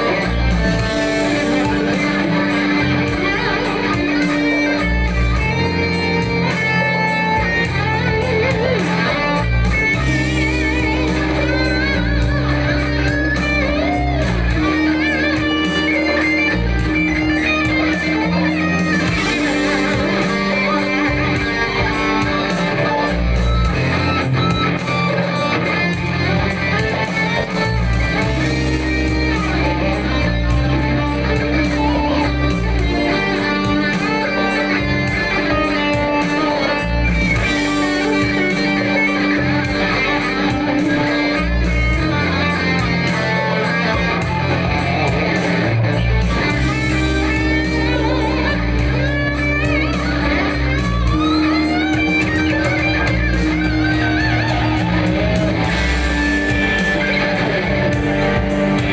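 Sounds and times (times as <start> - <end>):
electric guitar lead: 0.0 - 58.9
sustained bass notes: 0.0 - 58.9.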